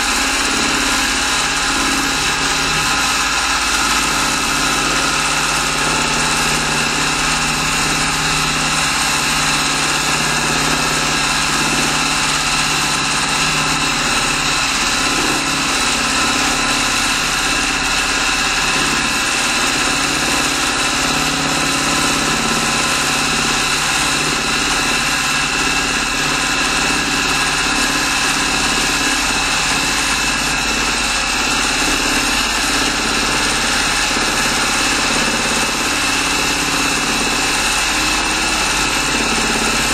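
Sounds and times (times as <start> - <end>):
sewing machine running: 0.0 - 39.9.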